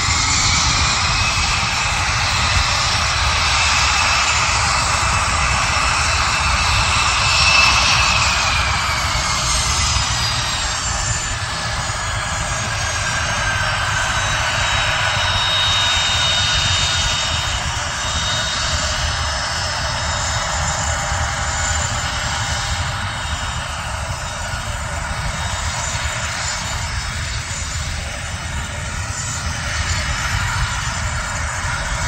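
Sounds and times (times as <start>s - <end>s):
jet engine whine: 0.0s - 32.0s.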